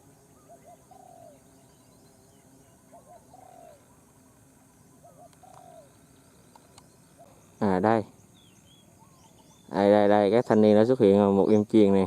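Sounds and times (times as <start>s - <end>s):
dove cooing: 0.0s - 10.8s.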